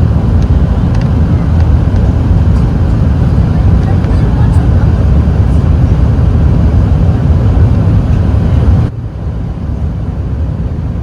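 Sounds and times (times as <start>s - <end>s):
jet engines rumbling: 0.0s - 11.0s
rushing air: 0.0s - 11.0s.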